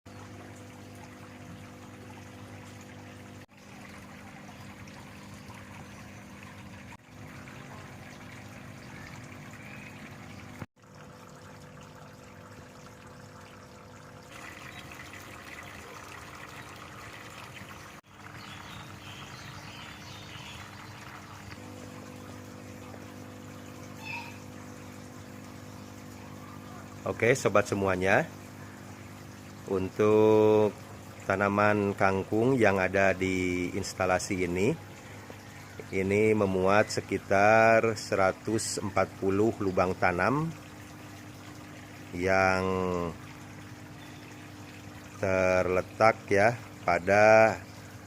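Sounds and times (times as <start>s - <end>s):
water trickling and splashing: 0.0s - 48.0s.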